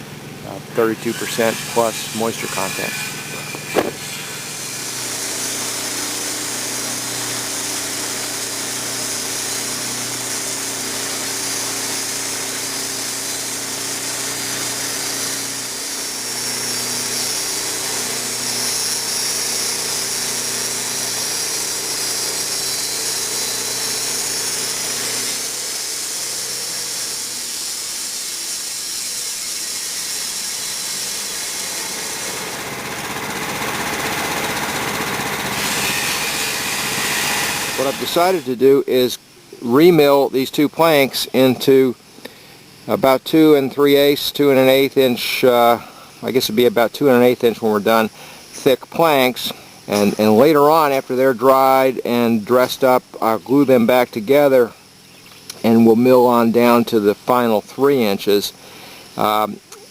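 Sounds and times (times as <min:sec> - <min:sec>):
saw blade cutting wood: 0:00.0 - 0:41.8, 0:43.0 - 0:54.6.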